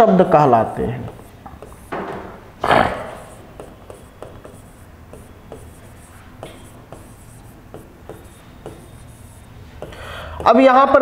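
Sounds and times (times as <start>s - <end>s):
chalk scratching on blackboard: 0.8s - 2.1s, 2.8s - 11.0s.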